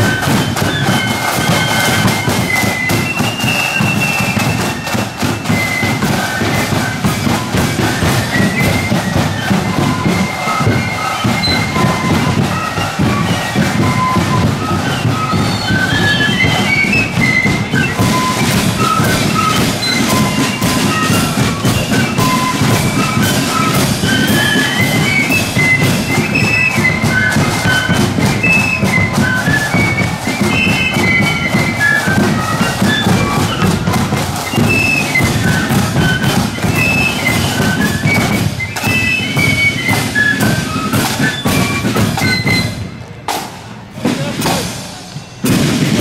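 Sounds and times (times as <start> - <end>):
flutes playing march melody: 0.0 - 46.0
snare and bass drumming: 0.0 - 46.0.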